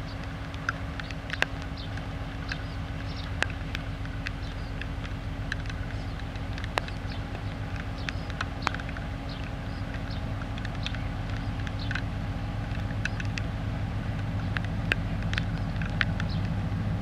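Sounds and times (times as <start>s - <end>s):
sharp ticks: 0.0s - 16.6s
diesel locomotive engine droning: 0.0s - 17.0s.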